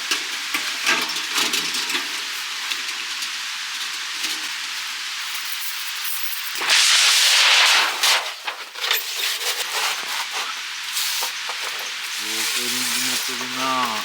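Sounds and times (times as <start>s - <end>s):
skewers sizzling over heat: 0.0s - 14.0s.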